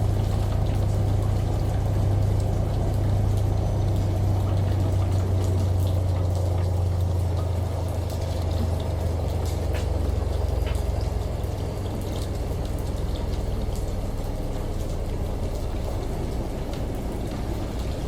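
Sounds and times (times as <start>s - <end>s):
running water: 0.0s - 18.0s
washing machine humming: 0.0s - 18.0s
water drips: 0.0s - 18.0s.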